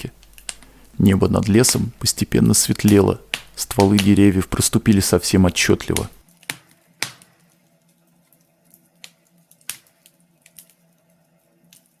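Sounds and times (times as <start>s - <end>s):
faint steady hum: 0.0s - 12.0s
fireplace crackling: 0.0s - 12.0s.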